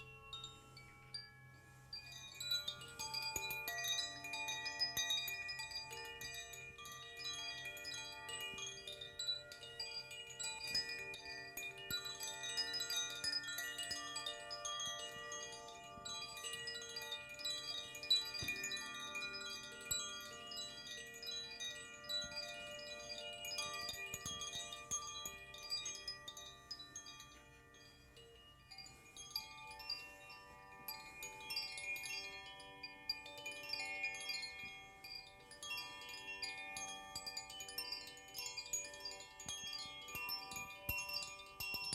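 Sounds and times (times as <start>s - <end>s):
held overlapping ringing tones: 0.0s - 41.9s
wind chimes tinkling: 0.0s - 41.9s.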